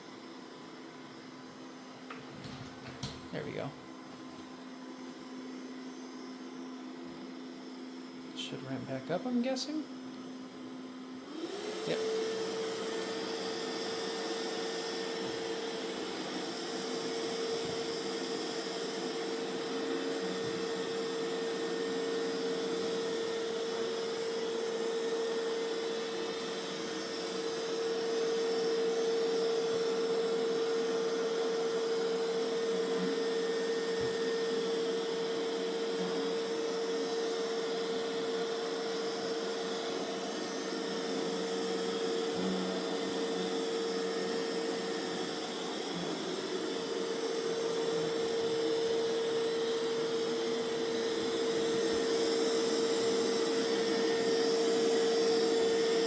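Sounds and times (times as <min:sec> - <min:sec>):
robot vacuum motor whine: 0:10.0 - 0:56.0.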